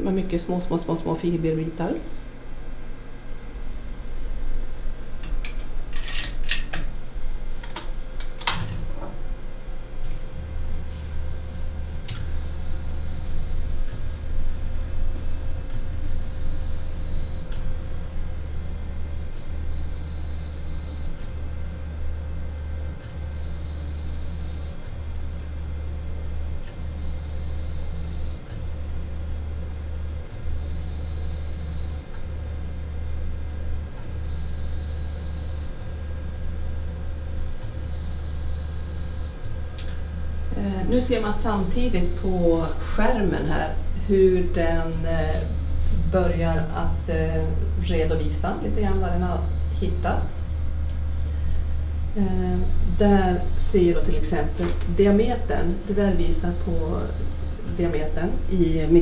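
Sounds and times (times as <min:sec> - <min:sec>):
low motor hum: 0:00.0 - 0:59.0.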